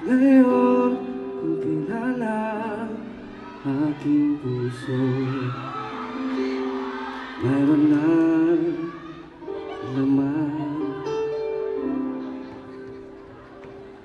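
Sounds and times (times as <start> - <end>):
person singing long notes: 0.0 - 12.2.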